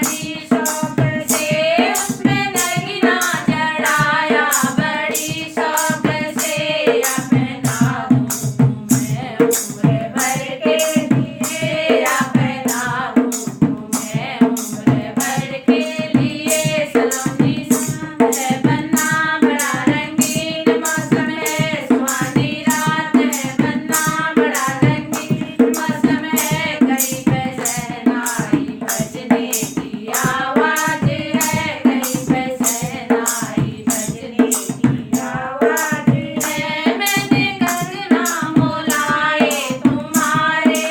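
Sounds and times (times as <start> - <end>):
folk song singing: 0.0 - 40.9
hand drum and jingling percussion: 0.0 - 40.9.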